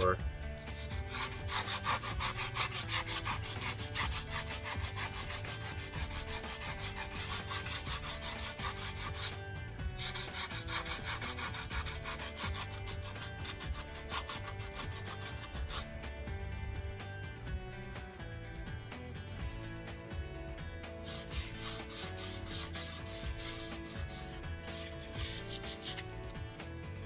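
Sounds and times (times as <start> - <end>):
sandpaper scraping metal wheel rim: 0.6 - 18.0, 20.4 - 26.7.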